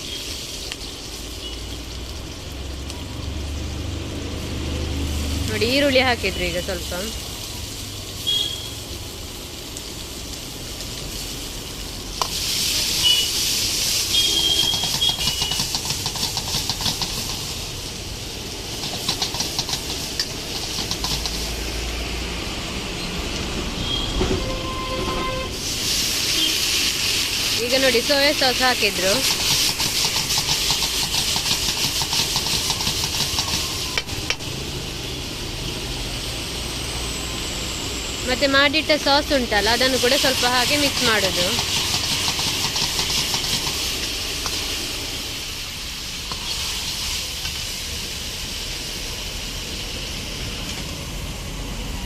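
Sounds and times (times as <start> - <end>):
onions sizzling in hot oil: 0.0 - 52.0.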